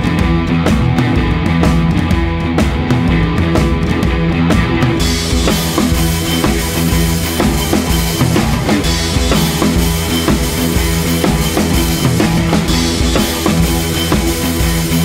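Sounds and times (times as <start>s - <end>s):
music with drum-kit beat: 0.0s - 15.0s.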